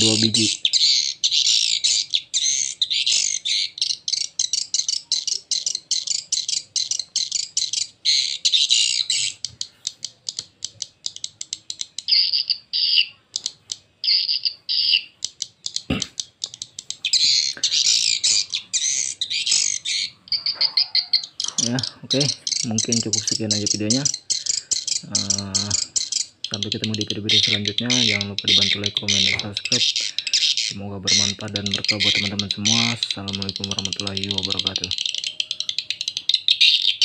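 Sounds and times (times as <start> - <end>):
bird chirping calls and clicks: 0.0 - 37.0.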